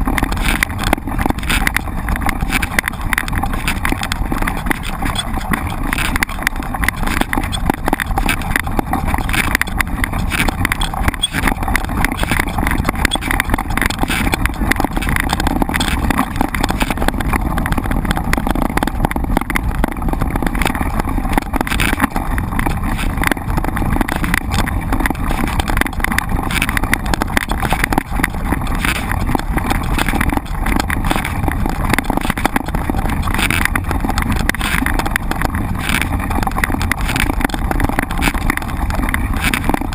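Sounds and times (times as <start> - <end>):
bike knocks and rattles: 0.0 - 39.9
bike tyres rolling: 0.0 - 39.9.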